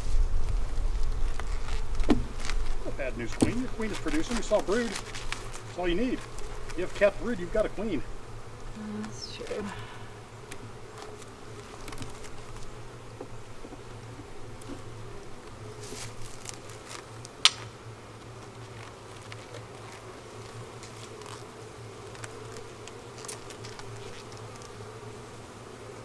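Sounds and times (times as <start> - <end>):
bees humming: 0.0 - 26.0.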